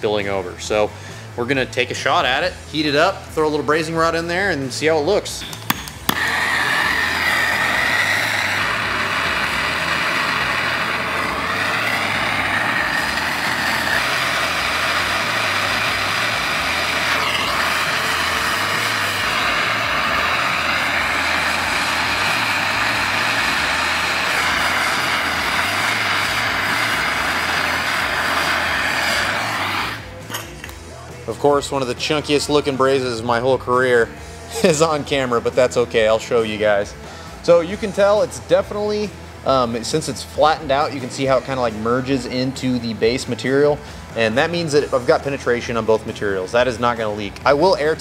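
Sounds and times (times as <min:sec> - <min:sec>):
gas torch hissing: 0:04.4 - 0:30.8, 0:34.0 - 0:48.0.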